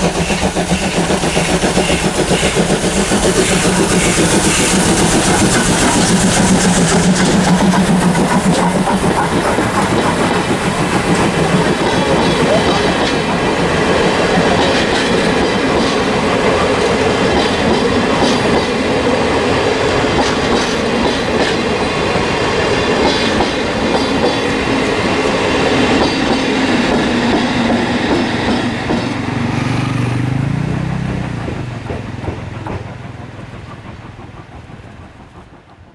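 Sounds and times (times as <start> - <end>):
steam train rolling past: 0.0 - 35.9.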